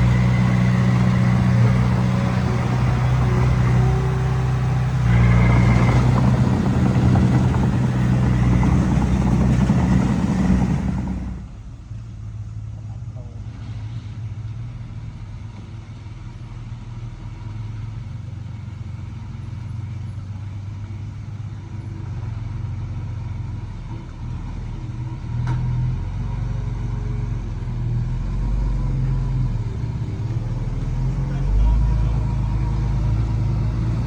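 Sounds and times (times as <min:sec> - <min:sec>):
diesel machinery engine rumble: 0:00.0 - 0:34.0.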